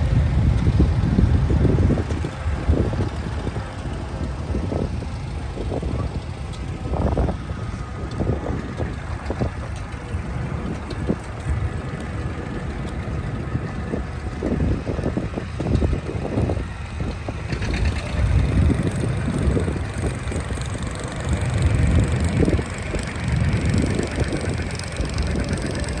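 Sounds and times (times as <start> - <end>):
tractor engine rumbling: 0.0 - 26.0.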